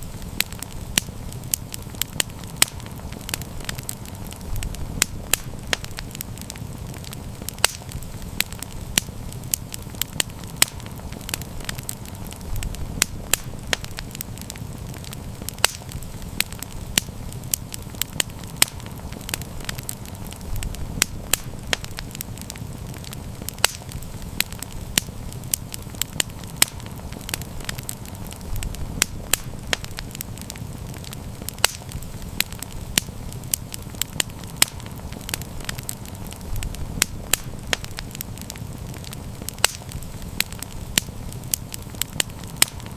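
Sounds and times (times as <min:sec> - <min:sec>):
low rush of flames: 0:00.0 - 0:42.9
wood fire crackling and popping: 0:00.0 - 0:42.9.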